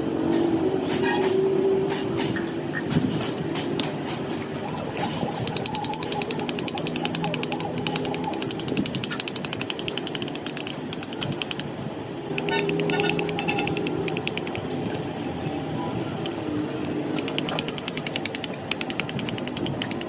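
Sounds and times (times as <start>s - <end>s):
rapid mechanical clattering: 1.9s - 15.1s, 16.0s - 20.0s.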